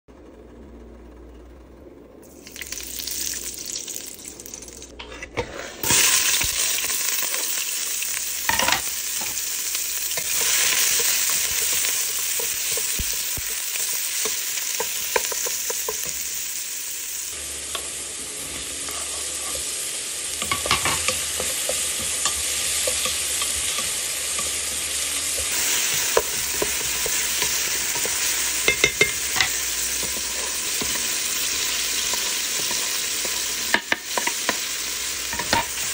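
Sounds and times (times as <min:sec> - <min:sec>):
onion sizzling in hot fat: 0:02.2 - 0:35.9.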